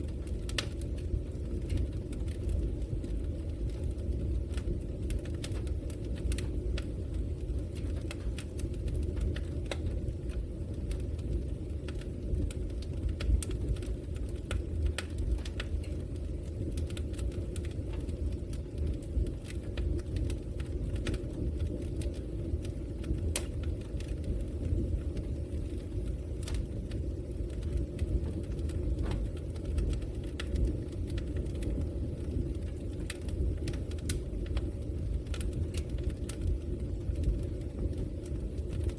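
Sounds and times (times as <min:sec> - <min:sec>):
fire rumbling: 0:00.0 - 0:38.9
wood crackling and popping: 0:00.0 - 0:38.9.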